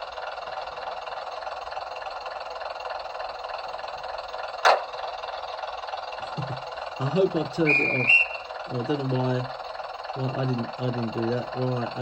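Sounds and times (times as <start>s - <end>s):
steady train background sound: 0.0s - 12.0s.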